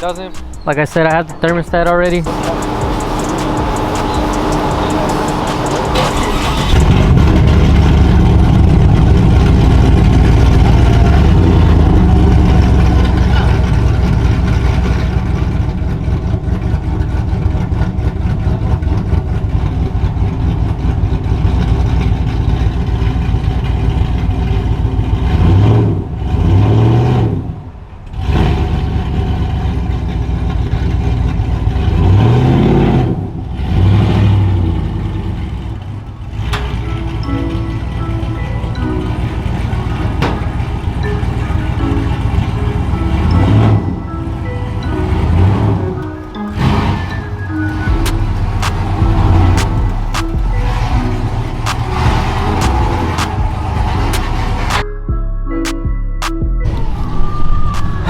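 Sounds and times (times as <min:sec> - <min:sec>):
pickup truck engine revving: 0:00.0 - 0:54.8.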